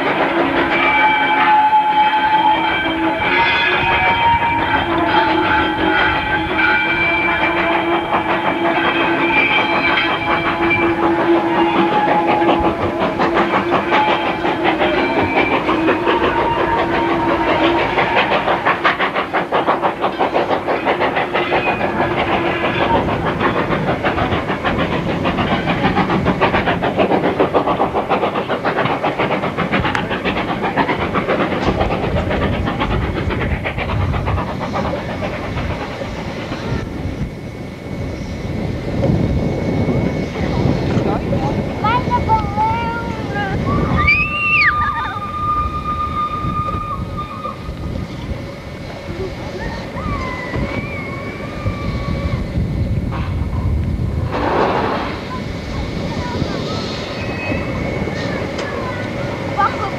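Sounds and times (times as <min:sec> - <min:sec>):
rail and coach rattle: 0:00.0 - 0:59.9
steam locomotive exhaust beats: 0:00.0 - 0:59.9.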